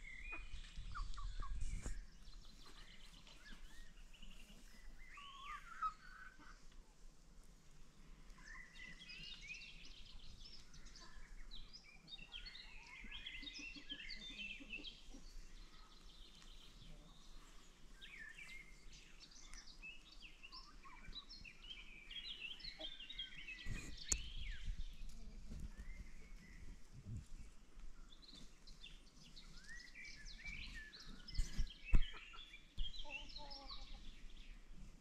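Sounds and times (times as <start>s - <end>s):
birds singing and calling: 0.0s - 6.7s, 8.0s - 35.0s.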